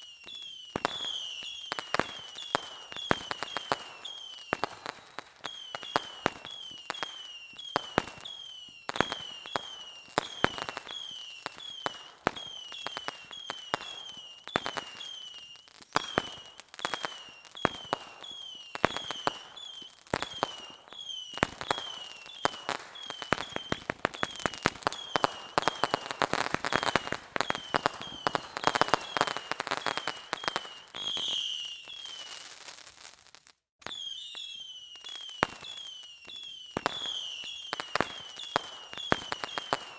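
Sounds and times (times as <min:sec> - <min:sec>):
firework whistles dropping in pitch: 0:00.0 - 0:32.7, 0:33.8 - 0:39.9
firework crackle: 0:00.0 - 0:39.9
fireworks pops and cracks: 0:00.0 - 0:39.9.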